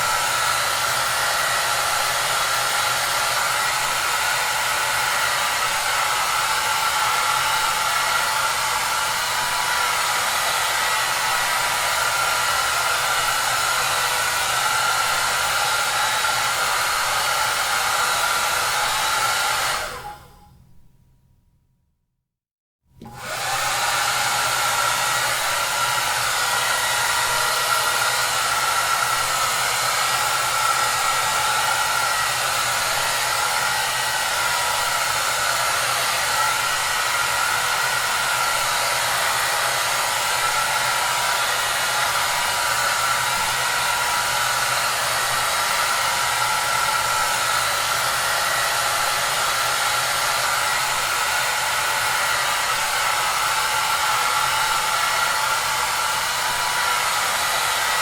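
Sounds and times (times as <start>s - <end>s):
hair dryer running: 0.0s - 20.5s, 23.0s - 58.0s.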